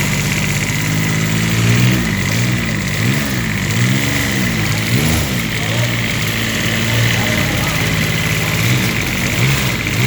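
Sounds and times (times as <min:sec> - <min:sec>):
diesel engine revving and idling: 0:00.0 - 0:10.0.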